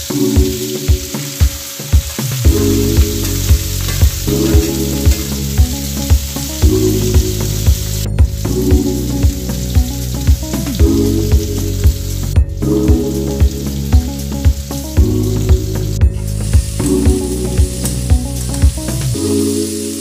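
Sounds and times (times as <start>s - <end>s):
background music with steady beat: 0.0s - 20.0s
food sizzling in frying pan: 0.0s - 20.0s.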